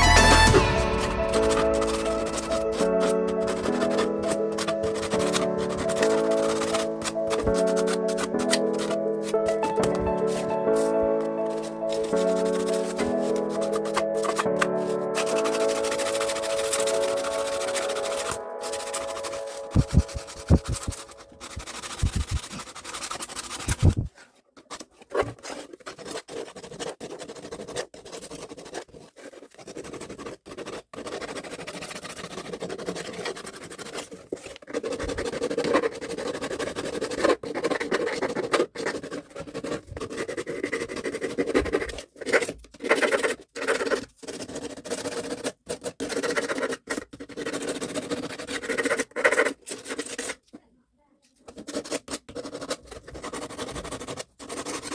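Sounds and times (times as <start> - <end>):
scratching and scraping: 0.0 - 50.6, 51.3 - 54.9.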